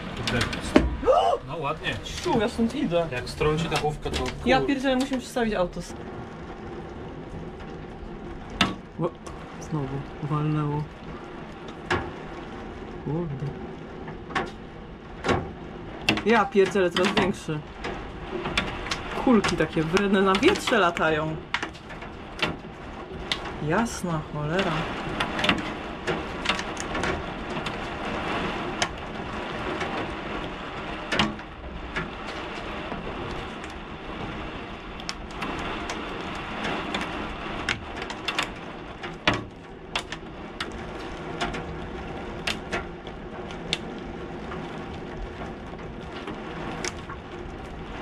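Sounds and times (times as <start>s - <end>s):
hailstones knocking on window glass: 0.0s - 48.0s
rain and wind hiss: 0.0s - 48.0s.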